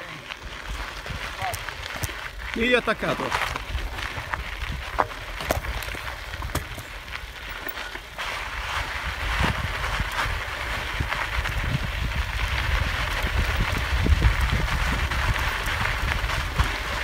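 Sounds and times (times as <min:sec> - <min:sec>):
bicycle knocking and rattling: 0:00.0 - 0:17.0
bicycle tyres crunching on gravel: 0:00.0 - 0:17.0
wind buffeting microphone: 0:00.3 - 0:07.5, 0:08.2 - 0:17.0.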